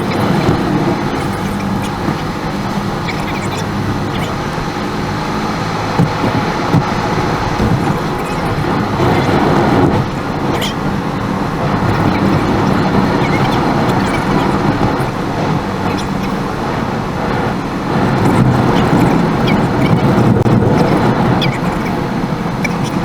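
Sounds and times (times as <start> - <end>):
small ticks: 0.0 - 4.6, 6.0 - 10.9, 11.7 - 16.6, 18.0 - 23.0
car engine and road noise: 0.0 - 23.0.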